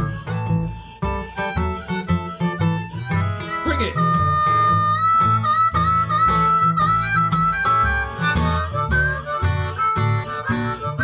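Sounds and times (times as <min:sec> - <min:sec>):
acoustic guitar strumming: 0:00.0 - 0:11.0
blues harmonica solo: 0:00.0 - 0:11.0.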